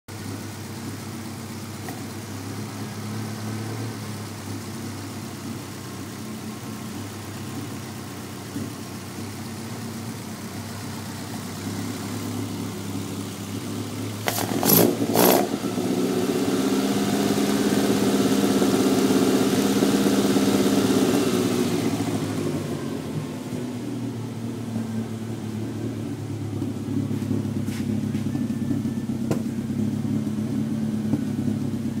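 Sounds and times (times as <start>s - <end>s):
engine running with misfire: 0.1s - 32.0s.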